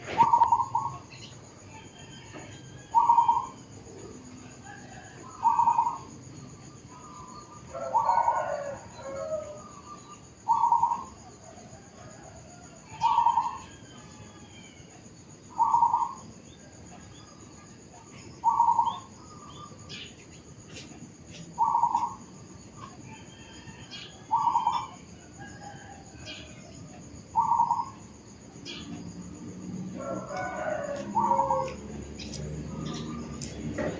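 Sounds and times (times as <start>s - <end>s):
dove cooing: 0.0s - 1.4s, 2.0s - 6.2s, 6.8s - 13.9s, 15.5s - 16.4s, 18.0s - 20.0s, 21.4s - 29.4s, 30.0s - 33.9s.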